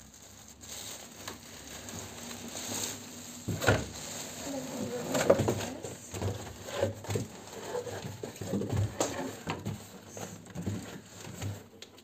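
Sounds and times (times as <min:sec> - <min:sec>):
plastic cover rustling: 0:00.0 - 0:12.0.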